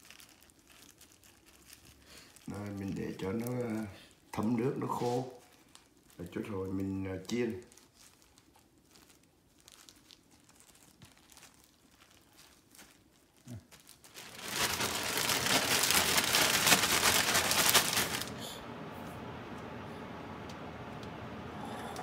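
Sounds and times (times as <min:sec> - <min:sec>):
plastic bag crinkling: 0:00.0 - 0:18.6
rustling on paper towels: 0:00.0 - 0:19.2.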